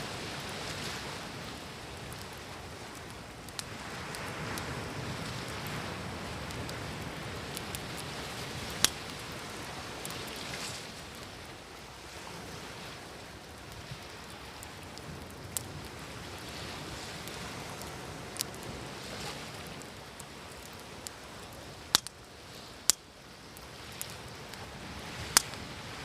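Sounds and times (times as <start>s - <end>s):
campfire crackling and popping: 0.0s - 26.0s
ocean waves: 0.0s - 26.0s.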